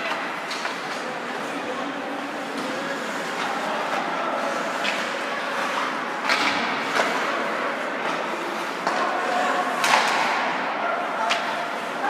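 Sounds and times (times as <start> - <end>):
hockey sticks and puck cracking: 0.0 - 1.7, 2.4 - 12.0
skates on ice: 0.0 - 12.0.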